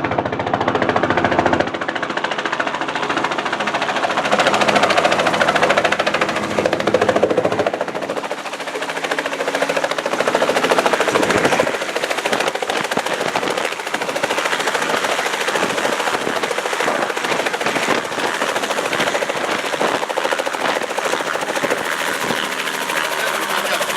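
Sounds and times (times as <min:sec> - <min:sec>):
helicopter engine and rotor chatter: 0:00.0 - 0:23.9.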